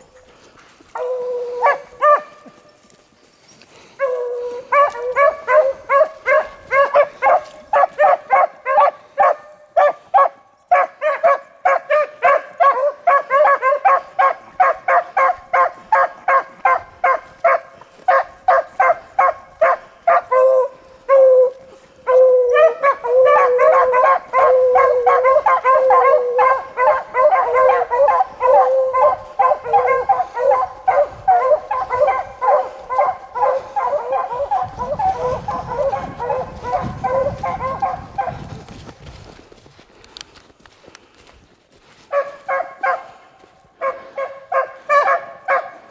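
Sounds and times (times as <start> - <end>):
pack of dogs baying: 0.0 - 2.8, 3.7 - 38.5, 42.1 - 45.9.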